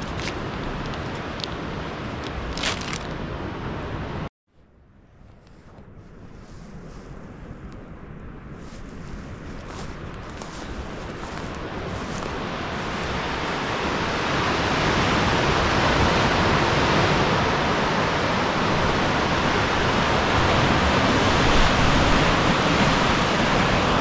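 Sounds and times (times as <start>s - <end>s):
surf and wind rushing: 0.0s - 4.3s, 5.7s - 24.0s.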